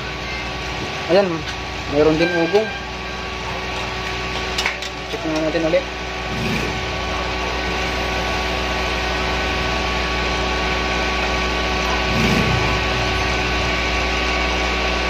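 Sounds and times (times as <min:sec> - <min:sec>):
amplifier mains hum: 0:00.0 - 0:15.0.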